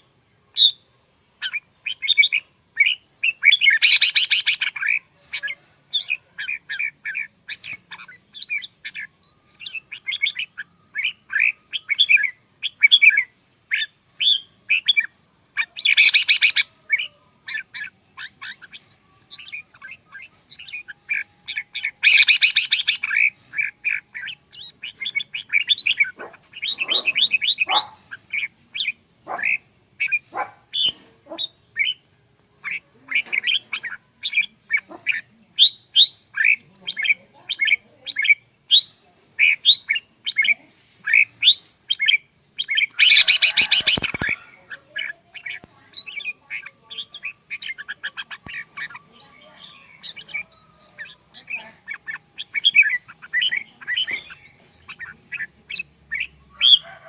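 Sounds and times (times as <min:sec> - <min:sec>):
birds singing whistled notes: 0:00.0 - 0:57.0
harsh bird call: 0:01.4 - 0:32.0, 0:32.6 - 0:57.0.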